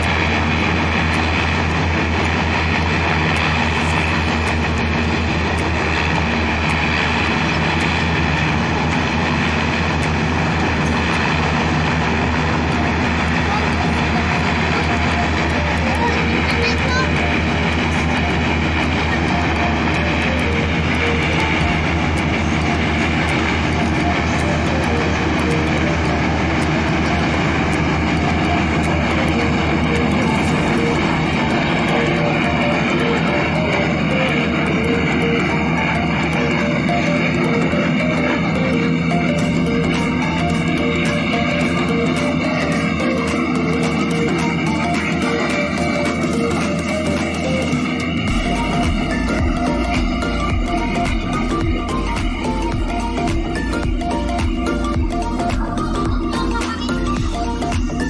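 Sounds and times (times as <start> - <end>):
deep hum: 0.0 - 58.0
guitar background music: 0.0 - 58.0
hovercraft engine drone: 0.0 - 58.0.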